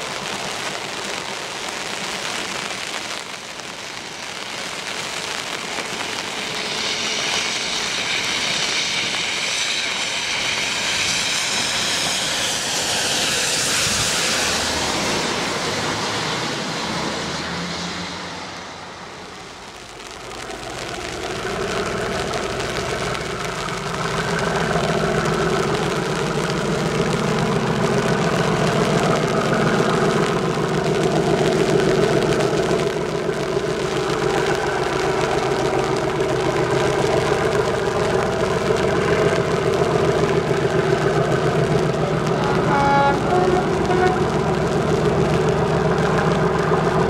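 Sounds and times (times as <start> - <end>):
train diesel engine running: 4.6 - 47.0.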